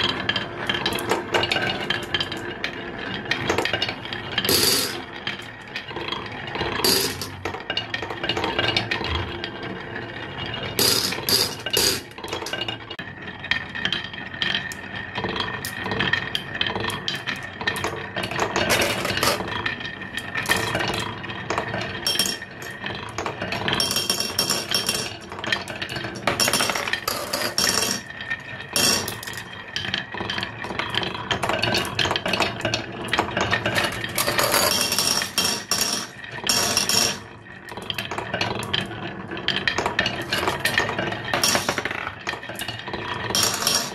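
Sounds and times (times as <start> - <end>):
glass marbles rolling on wooden tracks: 0.0 - 43.9.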